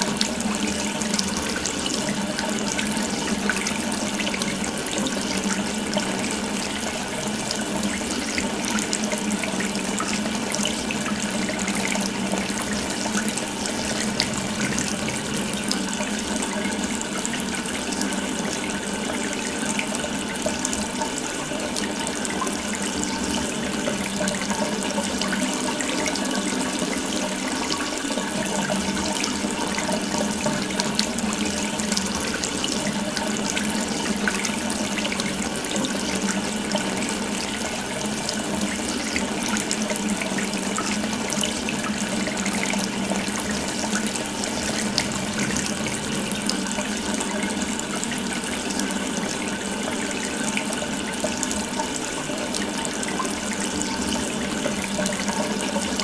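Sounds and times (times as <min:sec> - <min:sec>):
water running from a tap: 0:00.0 - 0:56.0.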